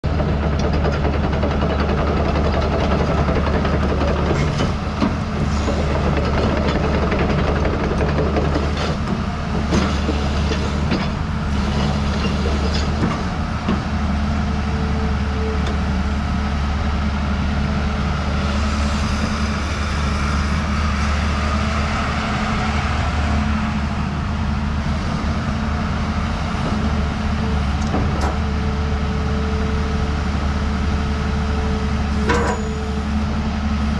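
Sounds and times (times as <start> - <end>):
excavator diesel drone: 0.0 - 33.9.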